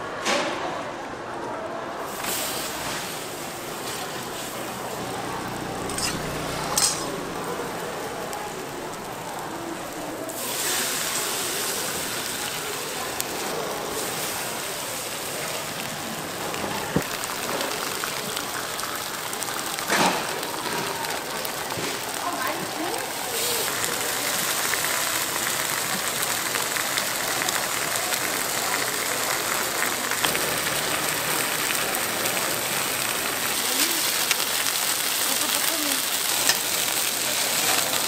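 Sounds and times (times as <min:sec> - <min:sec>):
pancakes sizzling on a griddle: 0:02.1 - 0:38.0.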